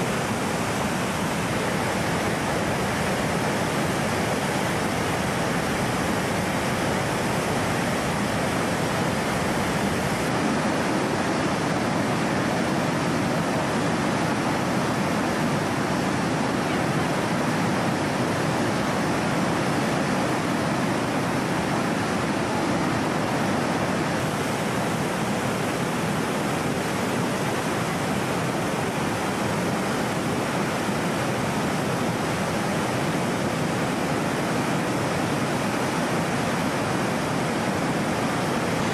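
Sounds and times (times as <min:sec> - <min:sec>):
river rushing over a weir: 0:00.0 - 0:38.9.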